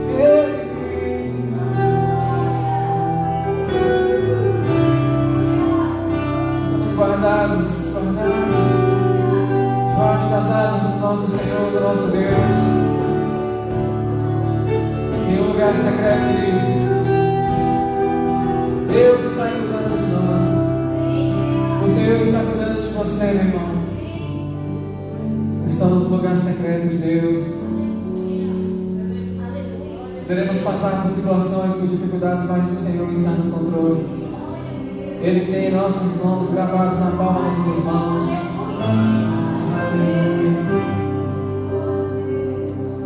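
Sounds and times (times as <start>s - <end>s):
man singing into a microphone: 0.0s - 5.1s, 6.6s - 24.9s, 30.2s - 43.0s
bass guitar: 0.0s - 43.0s
electric guitar: 0.0s - 43.0s
keyboard: 0.0s - 43.0s.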